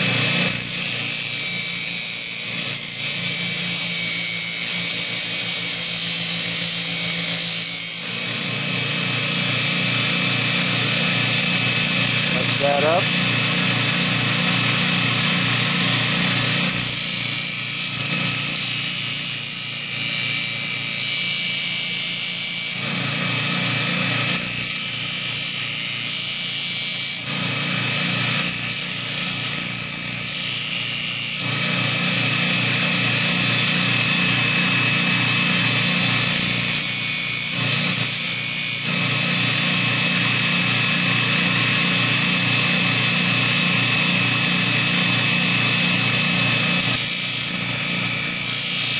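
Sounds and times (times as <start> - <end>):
grinder motor hum: 0.0 - 48.9.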